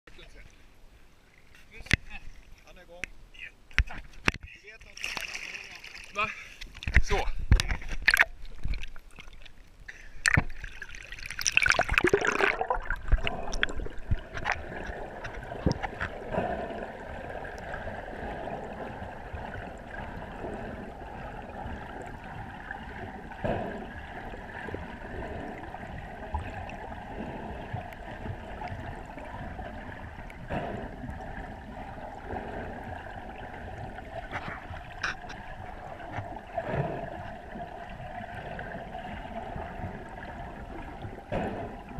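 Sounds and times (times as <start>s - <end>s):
water splashing: 3.9s - 41.9s
muffled underwater rush: 5.2s - 41.9s.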